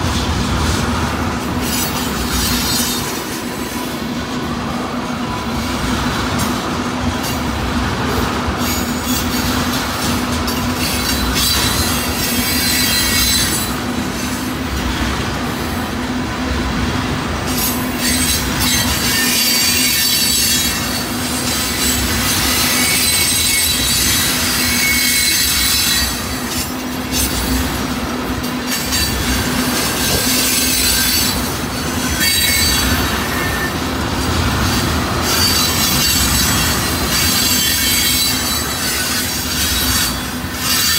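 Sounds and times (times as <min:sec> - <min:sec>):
steel wheels on rail: 0:00.0 - 0:40.9
wheels clacking over rail joints: 0:00.0 - 0:40.9.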